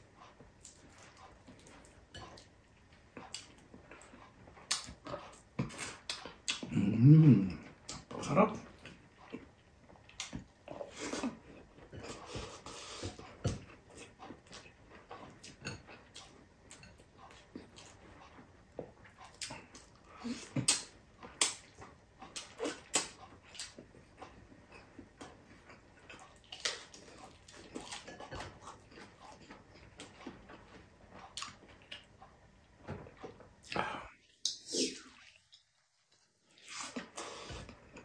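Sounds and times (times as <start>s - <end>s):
man chewing food: 0.0s - 38.0s.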